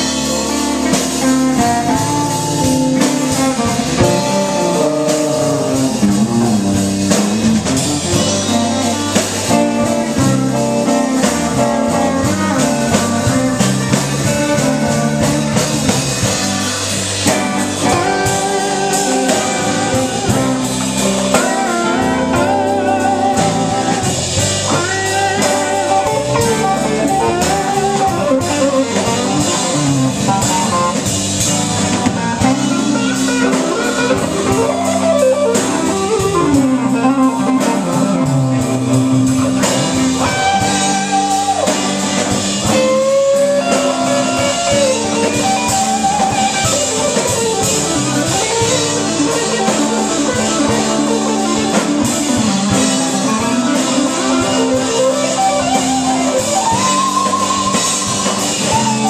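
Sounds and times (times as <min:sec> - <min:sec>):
blues band playing: 0:00.0 - 0:59.0
drum kit: 0:00.0 - 0:59.0
electric guitar solo: 0:00.0 - 0:59.0.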